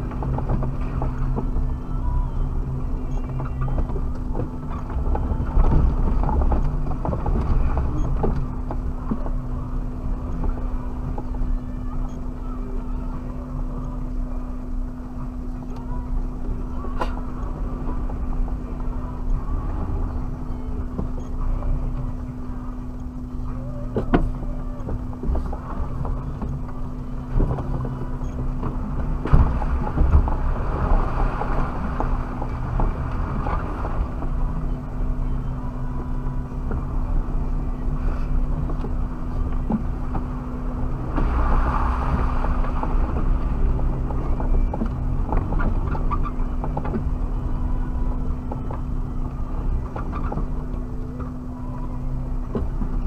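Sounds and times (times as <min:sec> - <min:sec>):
constant hum: 0:00.0 - 0:53.0
vehicle driving over rough ground: 0:00.0 - 0:53.0.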